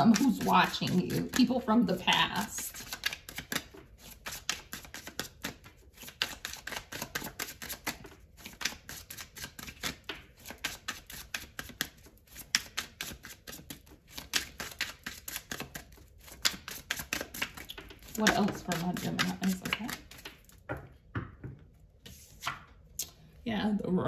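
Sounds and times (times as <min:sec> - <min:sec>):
cards being shuffled: 0:00.0 - 0:20.7, 0:22.0 - 0:22.9.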